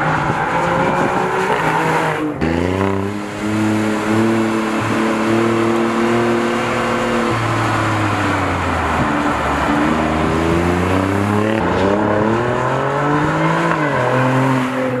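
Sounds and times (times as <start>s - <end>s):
car exhaust accelerating: 0.0s - 15.0s.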